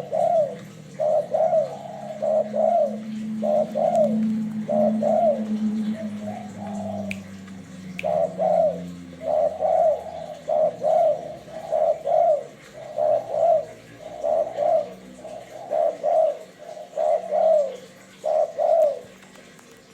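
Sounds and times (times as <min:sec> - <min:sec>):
dove cooing: 0:00.0 - 0:19.9.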